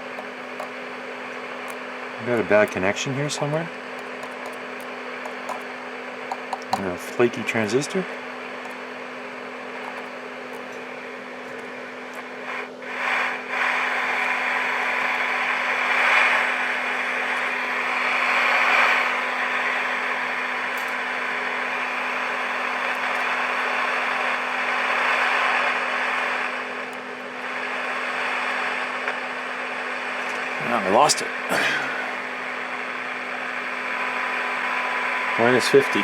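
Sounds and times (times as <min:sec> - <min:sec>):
radio static hiss: 0:00.0 - 0:36.0.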